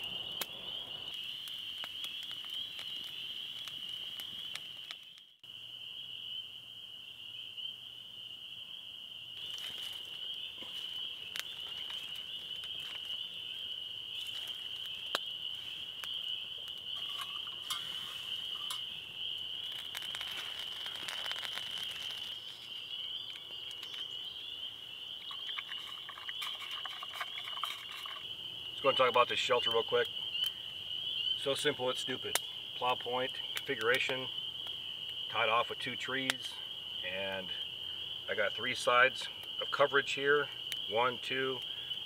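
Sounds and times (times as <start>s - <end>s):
campfire crackling and popping: 0.0s - 6.4s, 9.2s - 42.0s
frogs calling: 0.0s - 42.0s.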